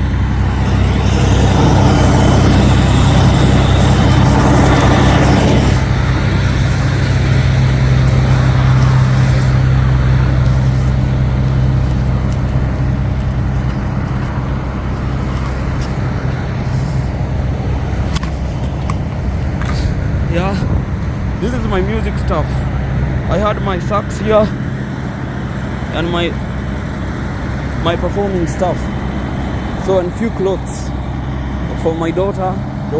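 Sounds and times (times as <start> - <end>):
heavy vehicle engine humming: 0.0 - 32.9
roadway traffic noise: 0.0 - 32.9.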